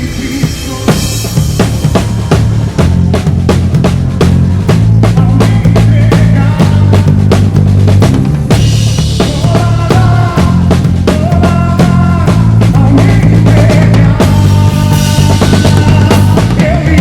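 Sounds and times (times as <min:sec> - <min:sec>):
drum kit beat: 0:00.0 - 0:17.0
held bass notes: 0:00.0 - 0:17.0.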